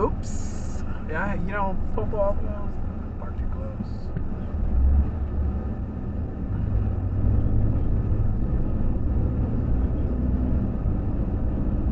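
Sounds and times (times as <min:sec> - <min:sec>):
vehicle engine and road rumble: 0:00.0 - 0:11.9.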